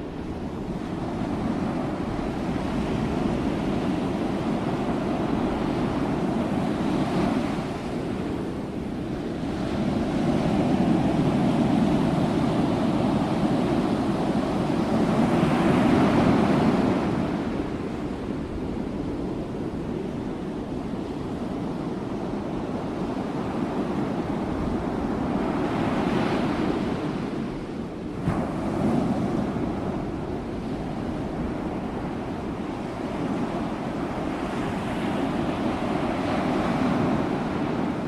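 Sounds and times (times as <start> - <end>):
ocean waves breaking on shore: 0.0 - 38.0.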